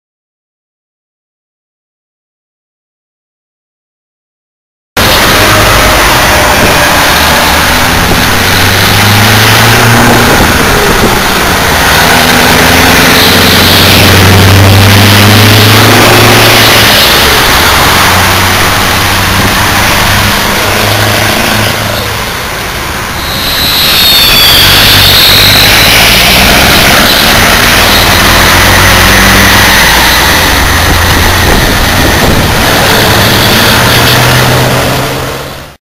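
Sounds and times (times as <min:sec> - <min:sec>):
diesel truck engines: 0:05.0 - 0:35.8
engine shifting through gears: 0:05.0 - 0:35.8.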